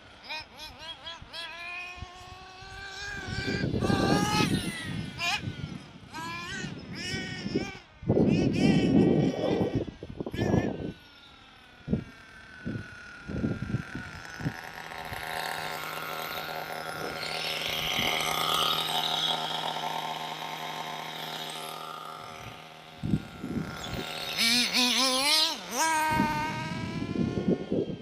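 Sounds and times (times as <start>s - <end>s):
small engine idling and revving: 0.0s - 28.0s.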